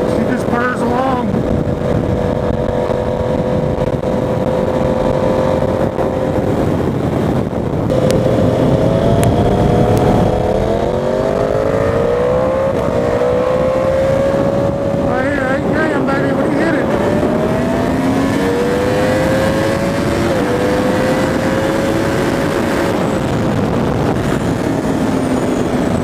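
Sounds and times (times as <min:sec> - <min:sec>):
motorcycle engine cruising: 0:00.0 - 0:26.0.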